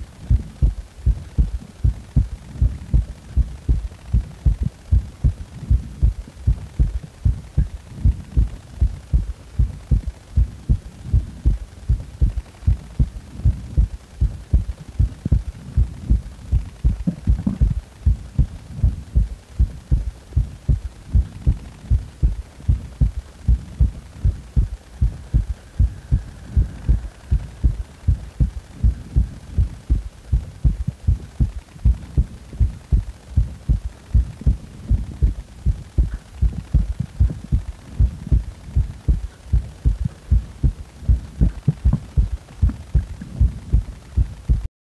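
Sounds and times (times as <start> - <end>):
heartbeat thuds: 0.0 - 44.7.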